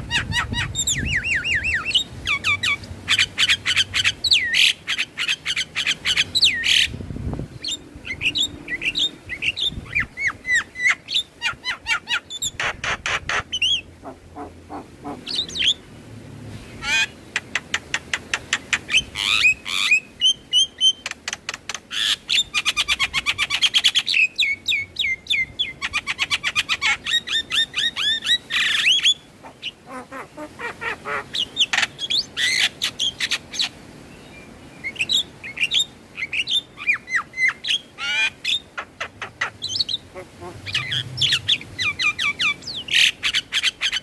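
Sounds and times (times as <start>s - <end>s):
myna bird singing: 0.0s - 15.9s, 16.6s - 44.0s.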